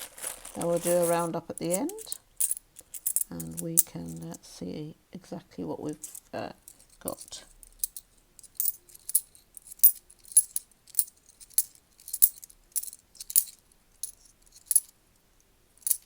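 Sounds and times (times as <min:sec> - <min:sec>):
coins clinking: 0:00.3 - 0:04.4, 0:05.9 - 0:14.9.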